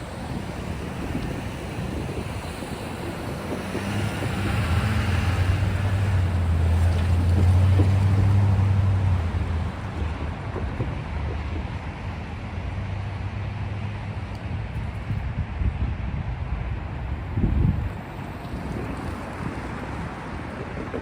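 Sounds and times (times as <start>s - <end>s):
diesel locomotive engine hum: 0.0s - 21.0s
freight train rumbling on rails: 0.0s - 21.0s.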